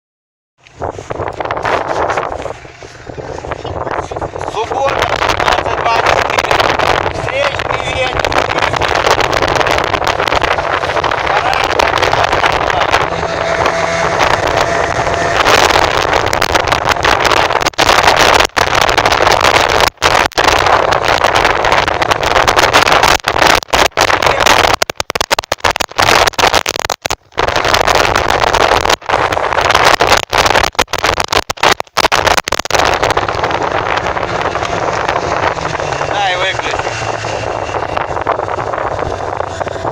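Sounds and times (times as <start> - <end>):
boat engine: 0.6 - 39.9
water rushing: 0.6 - 39.9
wind rushing on microphone: 0.6 - 39.9.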